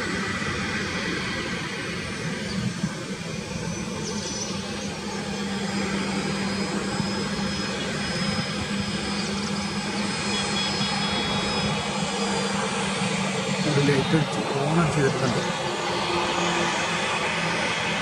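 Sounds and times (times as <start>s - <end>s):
jet engines during takeoff roll: 0.0s - 18.0s.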